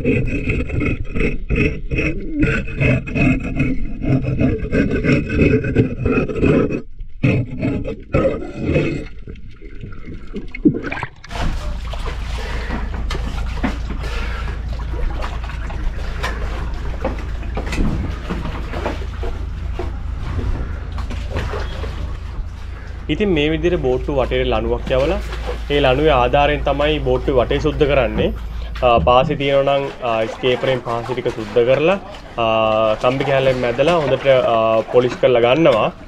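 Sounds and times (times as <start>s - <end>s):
low underwater rumble: 0.0s - 36.0s
pitched mechanical hum: 0.0s - 36.0s
underwater crackles and scrapes: 0.0s - 36.0s.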